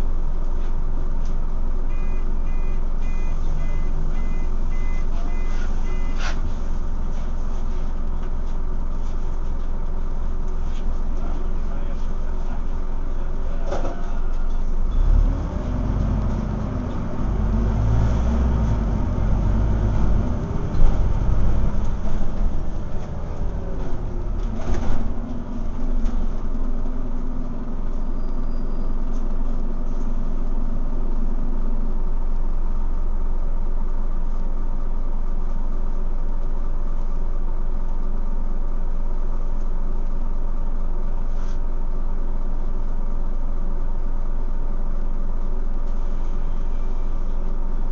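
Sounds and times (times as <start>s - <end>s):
bus diesel engine droning: 0.0s - 47.9s.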